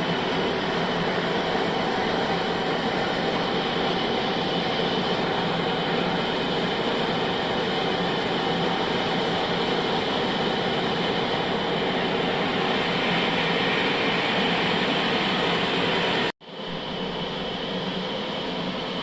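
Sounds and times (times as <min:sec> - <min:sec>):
quieter steady machine noise: 0:00.0 - 0:19.0.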